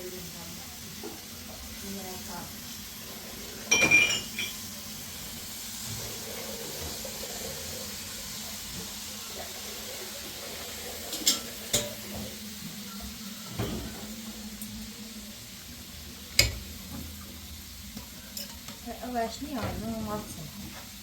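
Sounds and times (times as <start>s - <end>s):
food sizzling in pan: 0.0s - 21.0s.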